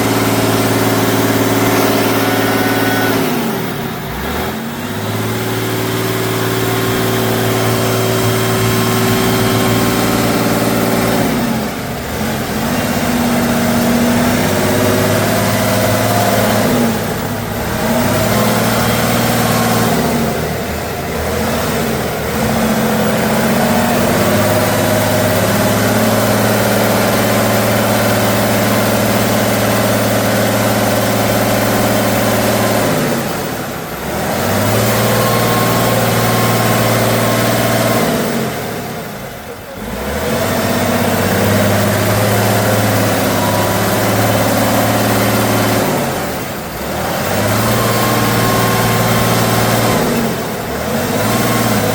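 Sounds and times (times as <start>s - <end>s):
truck engine revving under load: 0.0s - 51.9s.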